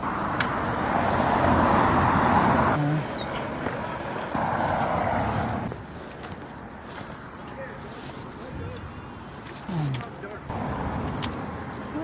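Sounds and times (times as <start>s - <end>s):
rushing road traffic: 0.0s - 12.0s.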